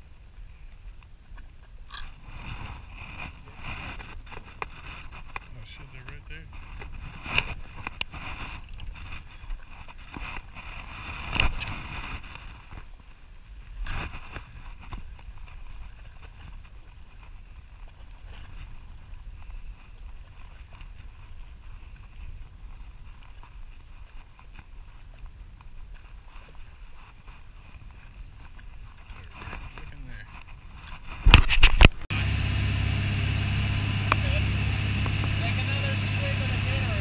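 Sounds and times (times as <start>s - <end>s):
wind and water rumble: 0.0s - 37.0s.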